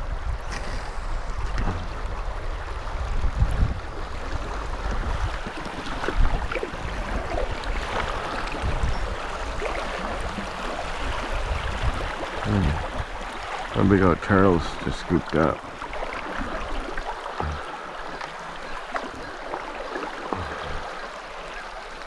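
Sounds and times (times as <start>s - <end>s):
wind buffeting microphone: 0.0s - 17.7s
river water rushing: 0.4s - 22.0s.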